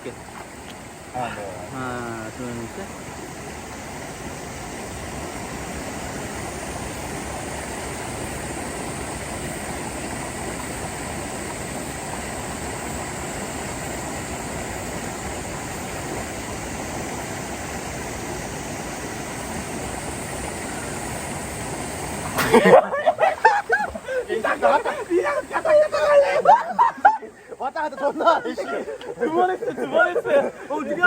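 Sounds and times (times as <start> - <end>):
stream water flowing: 0.0 - 31.0.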